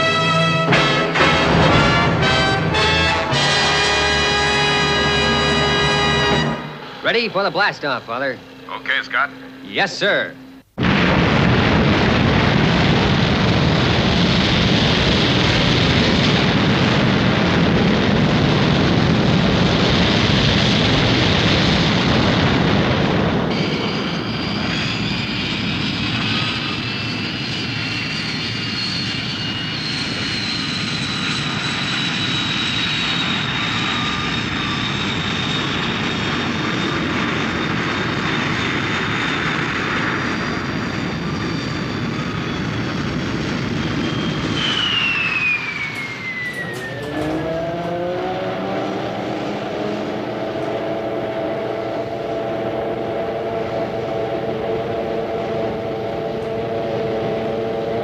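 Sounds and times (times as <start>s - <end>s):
rocket launch roar: 0.0s - 9.3s, 10.8s - 58.0s
high whine drifting down: 0.0s - 58.0s
jet in flight: 0.0s - 58.0s.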